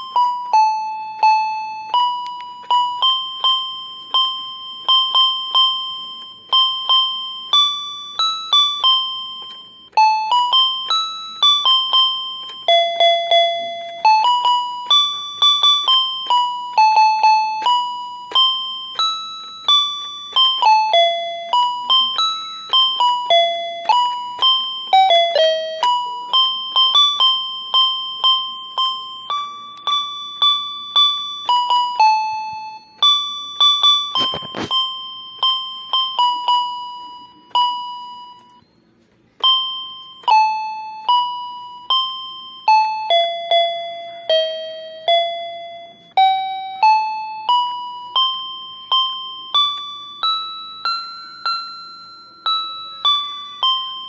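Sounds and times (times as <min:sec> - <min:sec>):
bell-like keyboard melody: 0:00.0 - 0:54.0.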